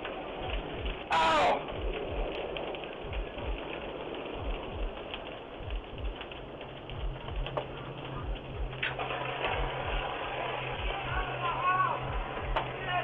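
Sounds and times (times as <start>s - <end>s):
house fire crackling and popping: 0.0s - 13.0s.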